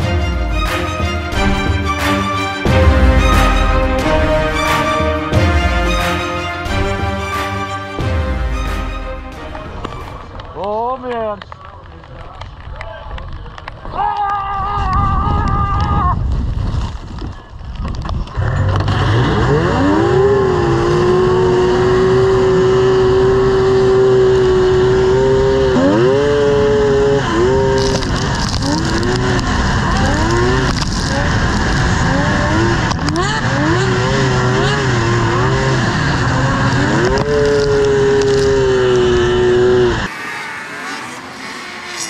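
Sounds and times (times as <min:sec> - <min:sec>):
snowmobile engine revving: 0:00.0 - 0:10.7, 0:18.4 - 0:42.0.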